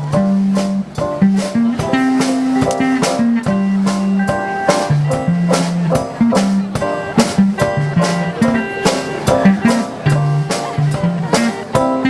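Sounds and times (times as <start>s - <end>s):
guitar chords: 0.0s - 12.0s
steady drum beat: 0.0s - 12.0s
sustained bass notes: 0.0s - 12.0s.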